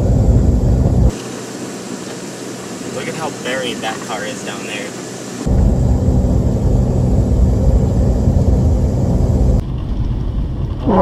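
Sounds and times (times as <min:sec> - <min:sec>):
road noise inside moving car: 0:00.0 - 0:11.0.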